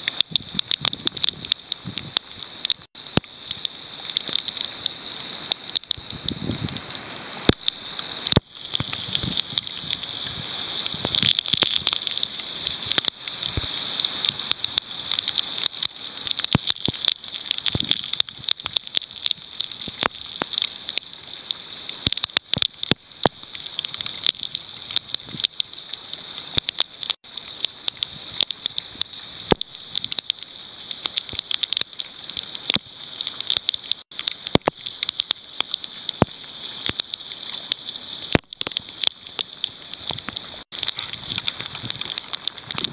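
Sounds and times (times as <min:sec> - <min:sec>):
heavy rain hissing: 0:00.0 - 0:42.9
raindrops ticking near microphone: 0:00.0 - 0:42.9.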